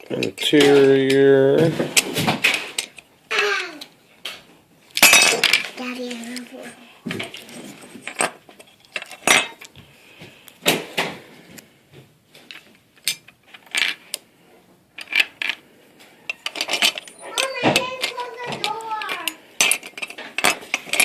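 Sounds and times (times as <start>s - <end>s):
toy car parts clicking and clattering: 0.0s - 9.8s, 12.4s - 14.2s, 14.9s - 15.6s, 16.2s - 21.0s.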